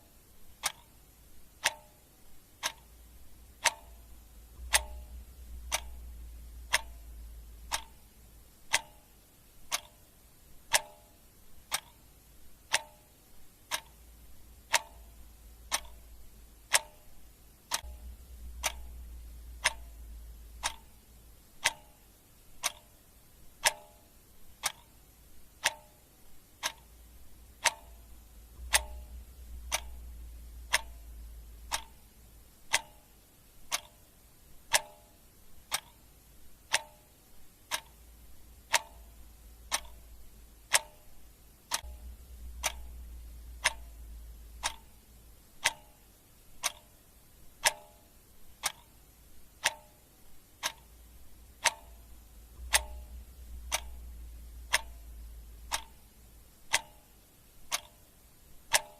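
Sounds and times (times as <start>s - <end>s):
clock ticking: 0.0s - 58.9s.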